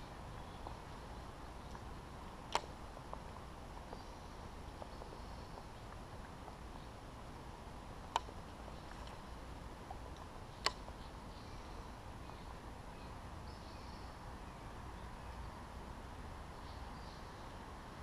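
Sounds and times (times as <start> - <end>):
faint outdoor background noise: 0.0 - 18.0.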